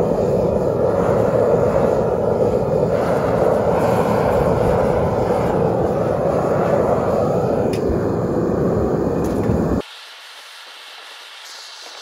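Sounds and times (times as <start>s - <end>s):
gas burner rushing: 0.0s - 9.8s.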